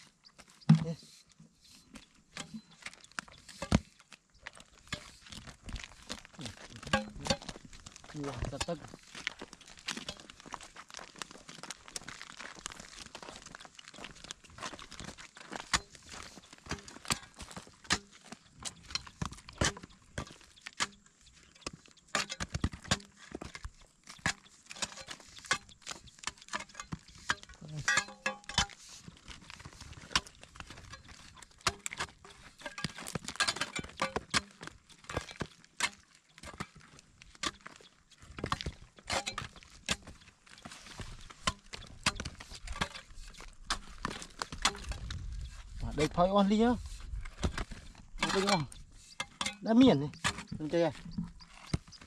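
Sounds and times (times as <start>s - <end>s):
flip-flop footsteps on dry mud: 0.0s - 52.0s.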